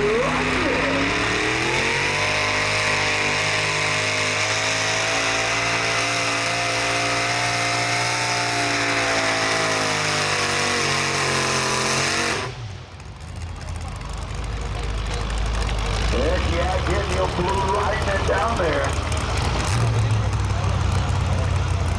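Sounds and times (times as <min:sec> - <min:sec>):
engine revving under load: 0:00.0 - 0:13.0, 0:14.7 - 0:21.9.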